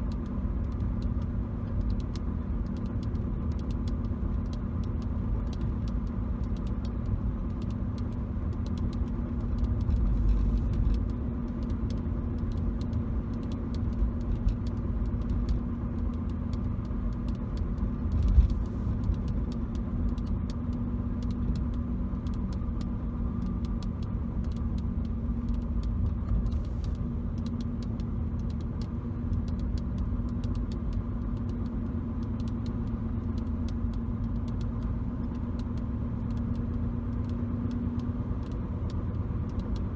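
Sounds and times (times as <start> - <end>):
car road and engine rumble: 0.0 - 39.9
faint clicks: 0.1 - 39.9.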